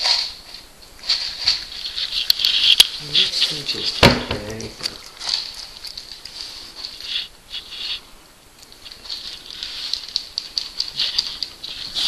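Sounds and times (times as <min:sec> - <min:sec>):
cat chewing food: 0:00.0 - 0:12.0.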